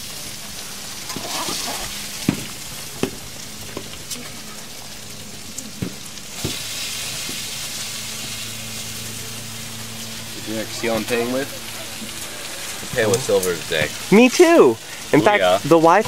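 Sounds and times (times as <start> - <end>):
food sizzling: 0.0 - 16.0
low steady hum: 0.0 - 16.0.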